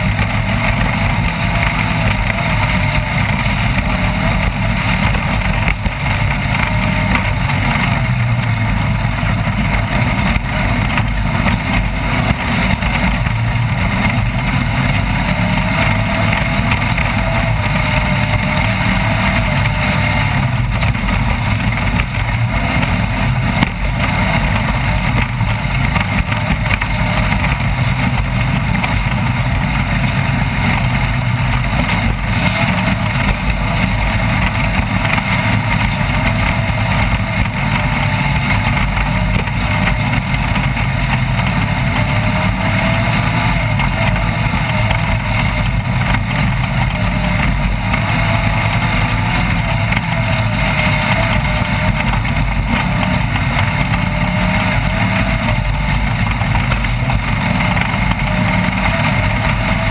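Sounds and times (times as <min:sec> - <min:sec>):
race vehicle engine drone: 0:00.0 - 0:59.9.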